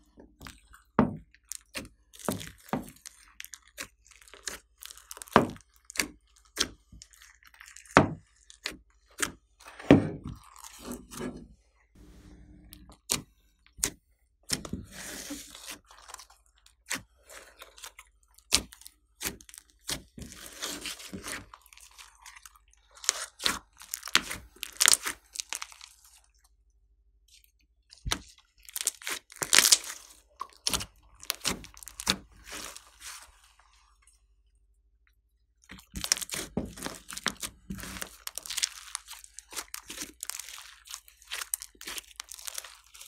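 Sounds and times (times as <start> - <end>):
slime squished by hand: 0.4 - 11.1, 12.8 - 26.2, 27.3 - 34.0, 35.6 - 43.0.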